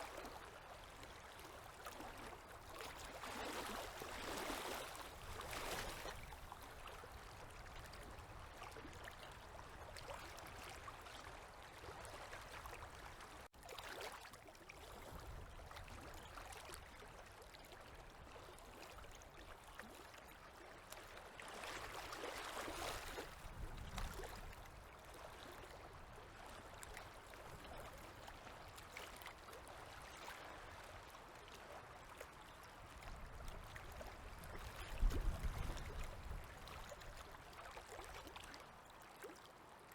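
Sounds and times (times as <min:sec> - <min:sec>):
river waves lapping at shore: 0:00.0 - 0:39.9.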